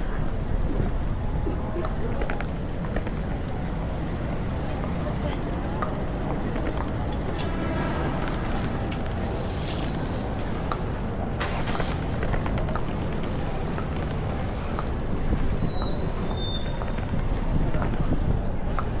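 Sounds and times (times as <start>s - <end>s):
city street ambience: 0.0s - 19.0s
wind buffeting microphone: 0.0s - 19.0s.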